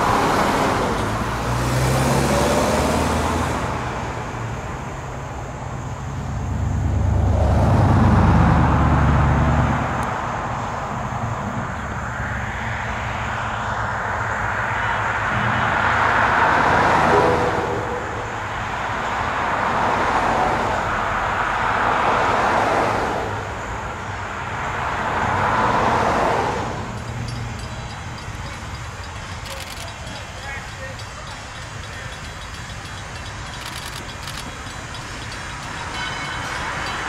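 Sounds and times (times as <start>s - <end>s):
cars passing by: 0.0s - 37.0s.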